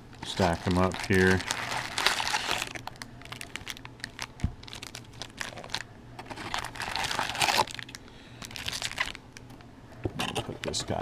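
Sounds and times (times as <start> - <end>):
foil wrappers crinkling: 0.1 - 9.2.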